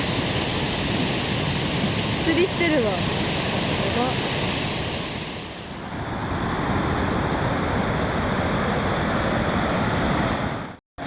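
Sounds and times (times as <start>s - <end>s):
waterfall roaring: 0.0s - 10.8s.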